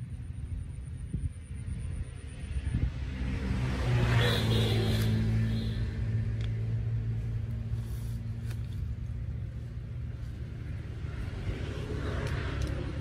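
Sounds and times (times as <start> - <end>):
distant engine droning: 0.0 - 13.0.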